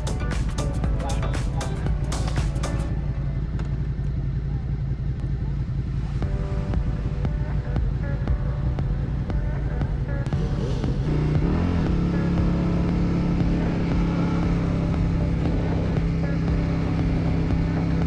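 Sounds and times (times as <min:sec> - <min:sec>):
motorcycle engine running: 0:00.0 - 0:18.0
road and wind noise: 0:00.0 - 0:18.0.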